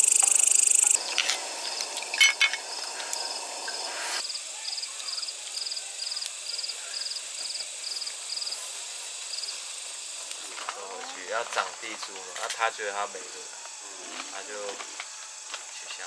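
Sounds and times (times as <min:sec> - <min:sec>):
insects chirping in fast trills: 0:00.0 - 0:16.0.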